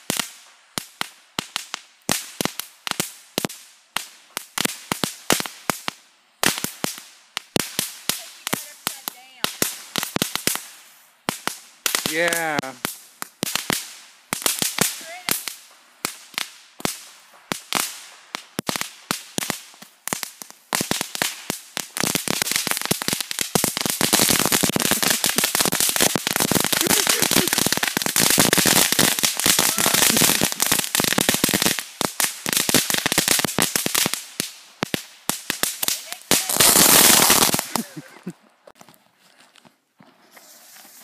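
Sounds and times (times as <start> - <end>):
ground firework crackling: 0.0 - 38.9, 40.2 - 41.0.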